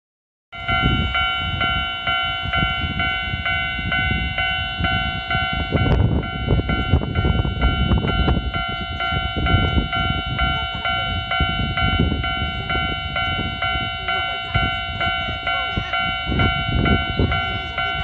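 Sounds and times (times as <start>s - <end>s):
level-crossing warning bell: 0.5s - 18.0s.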